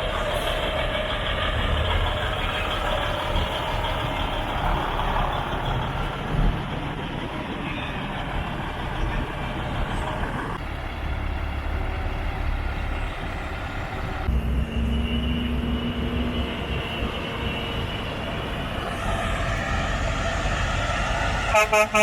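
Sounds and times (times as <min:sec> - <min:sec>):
diesel truck engines idling: 0:00.0 - 0:22.0.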